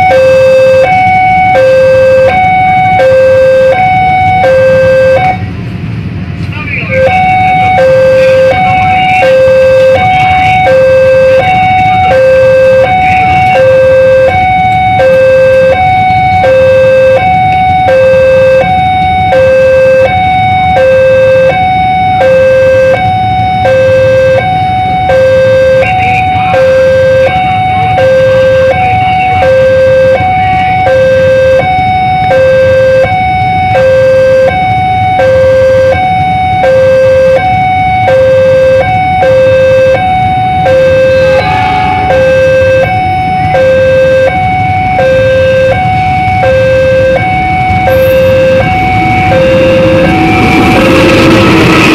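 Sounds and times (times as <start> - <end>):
level crossing two-tone alarm: 0.0 - 5.4, 6.8 - 51.9.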